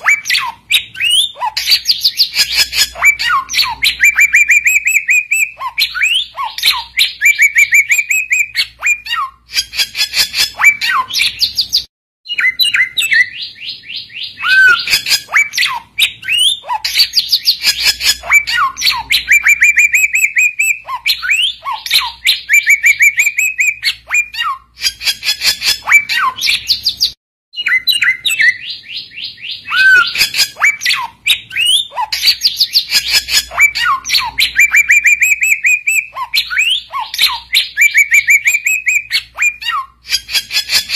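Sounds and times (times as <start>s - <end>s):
bird singing chirps and trills: 0.0s - 40.9s.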